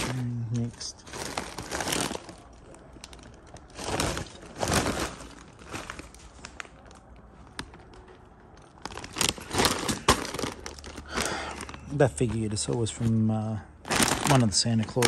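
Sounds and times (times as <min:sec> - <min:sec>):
rustling and shuffling: 0:00.0 - 0:15.0.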